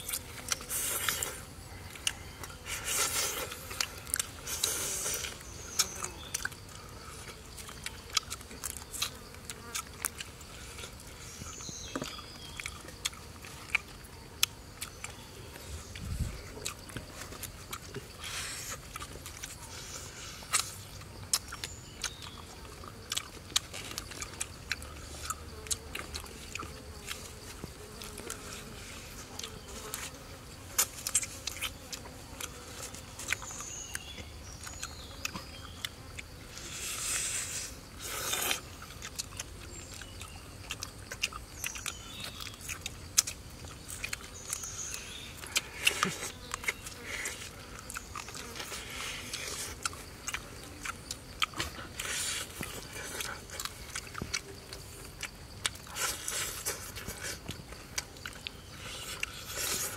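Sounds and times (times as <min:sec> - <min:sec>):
crunchy chewing: 0:00.0 - 0:59.9
insects buzzing: 0:00.0 - 0:59.9.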